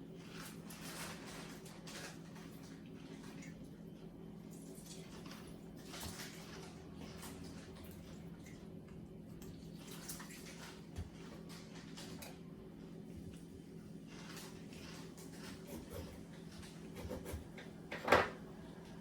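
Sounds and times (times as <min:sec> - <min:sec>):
water splashing and sloshing: 0:00.1 - 0:17.9.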